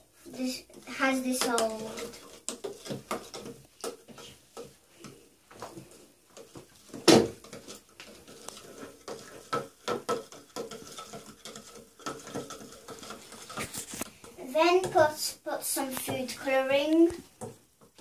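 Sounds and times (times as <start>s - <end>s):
spoon stirring in plastic cup: 0.2s - 15.2s.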